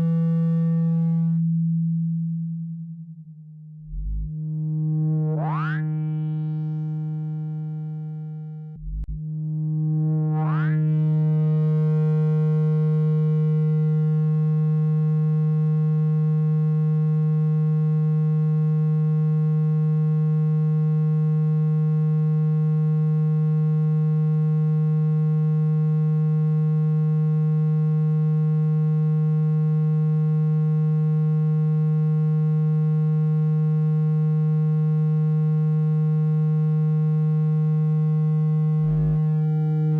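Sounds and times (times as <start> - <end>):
low electronic buzzing tone: 0.0 - 39.9.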